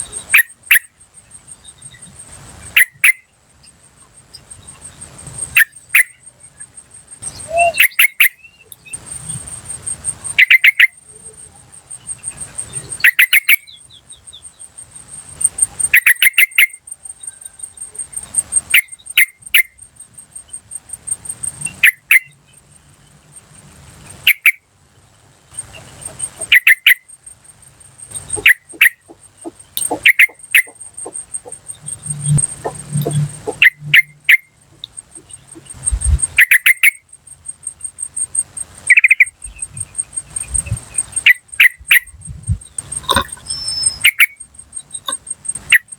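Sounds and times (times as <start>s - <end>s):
bird chirping: 0.0s - 45.9s
insect trill: 0.0s - 45.9s.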